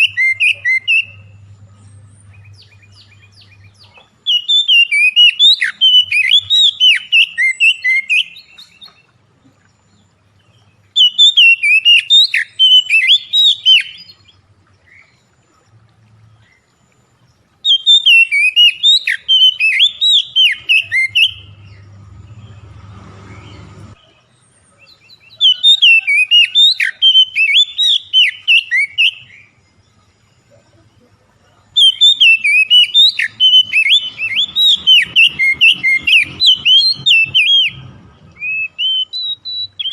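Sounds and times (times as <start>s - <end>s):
magpie-robin song: 0.0s - 9.2s, 9.8s - 15.2s, 17.6s - 29.6s, 31.6s - 39.9s.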